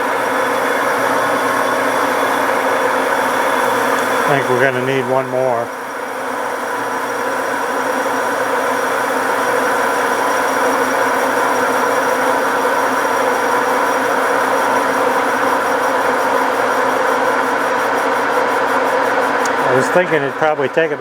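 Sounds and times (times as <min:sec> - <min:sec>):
metal lathe humming and whining: 0:00.0 - 0:21.0.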